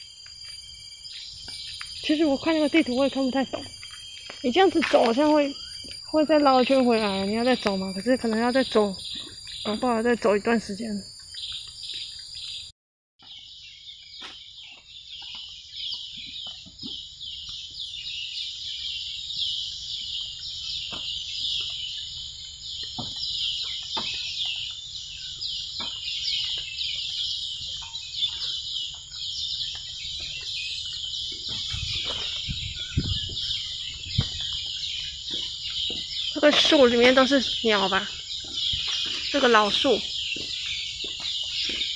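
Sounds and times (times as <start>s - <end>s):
cicadas buzzing in chorus: 0.0s - 12.7s, 13.3s - 41.9s.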